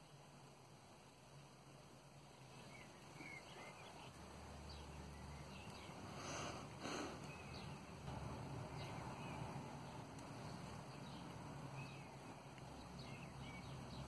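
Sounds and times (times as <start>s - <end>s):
faint bird chirps: 2.2s - 14.0s.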